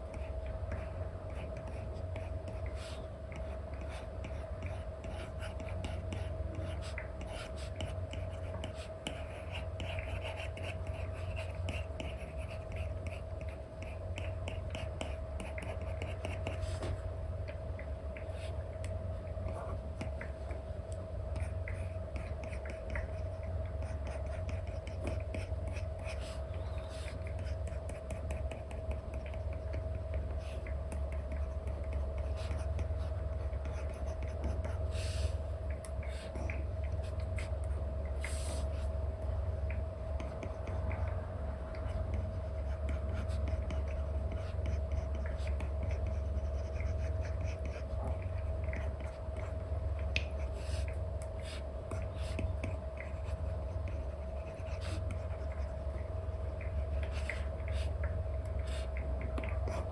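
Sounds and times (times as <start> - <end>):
stylus tapping and scratching on screen: 0.0 - 39.0, 39.6 - 59.9
steady low hum: 0.0 - 59.9.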